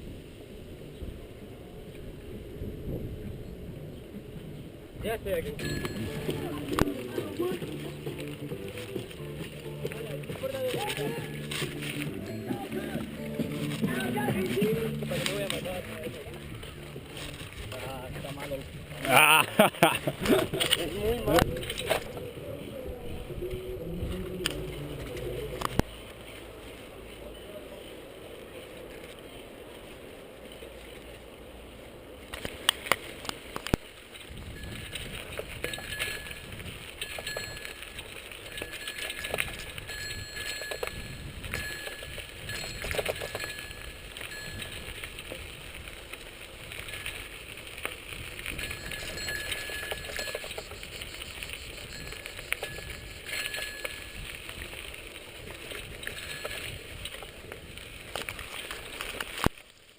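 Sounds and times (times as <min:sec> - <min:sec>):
bicycle tyres on dirt track: 0:00.0 - 0:59.9
bicycle rattles and clicks: 0:01.8 - 0:59.9.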